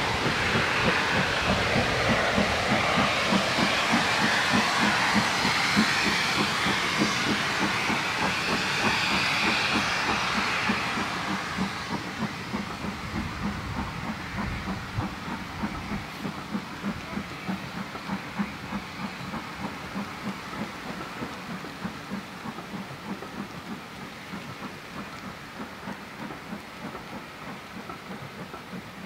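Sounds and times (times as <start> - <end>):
steam train rumbling past: 0.0 - 29.0.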